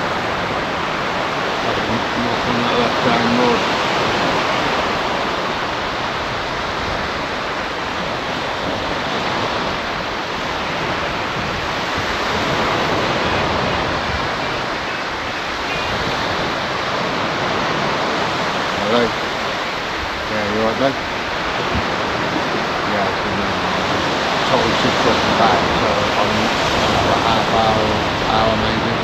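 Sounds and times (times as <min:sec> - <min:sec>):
waves breaking on a beach: 0:00.0 - 0:29.0.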